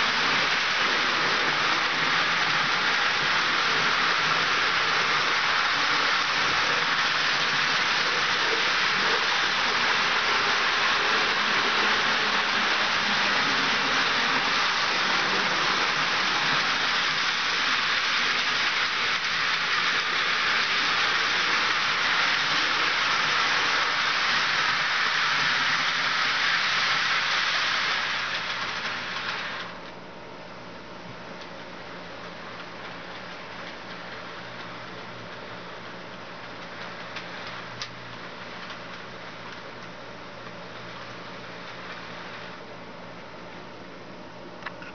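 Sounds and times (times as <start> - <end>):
model train wheels rattling on rails: 0.0 - 30.0, 31.4 - 42.6.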